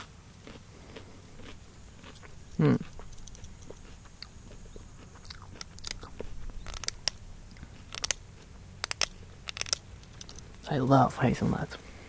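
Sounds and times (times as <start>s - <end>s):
nut crunching while chewed: 0.0s - 10.6s.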